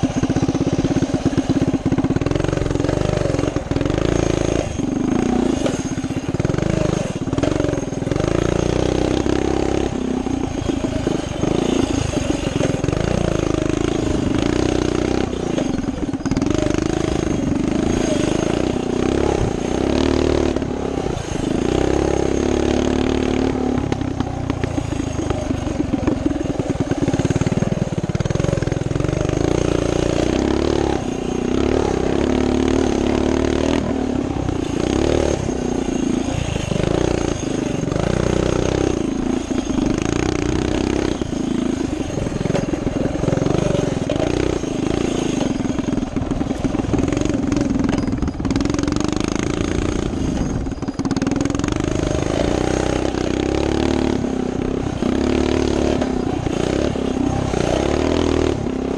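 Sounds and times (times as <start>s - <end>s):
clatter from rough ground: 0.0s - 58.9s
minibike engine revving: 0.0s - 58.9s.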